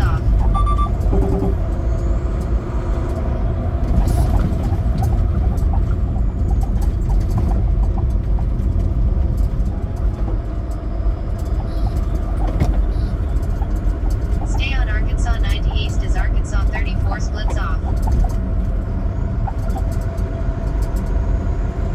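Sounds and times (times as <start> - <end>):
truck diesel engine rumble: 0.0 - 21.9.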